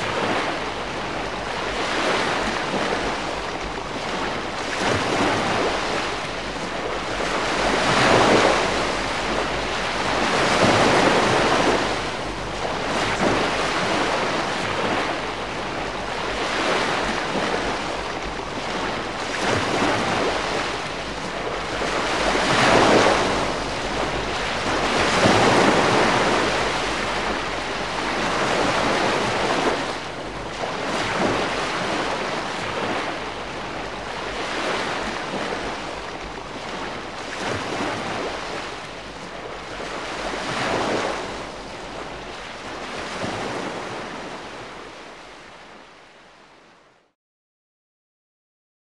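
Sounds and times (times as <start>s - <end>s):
gentle sea waves: 0.0s - 47.2s.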